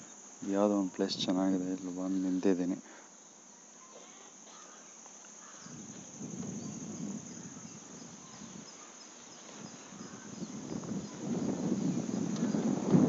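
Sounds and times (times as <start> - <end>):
crickets droning: 0.0 - 13.0.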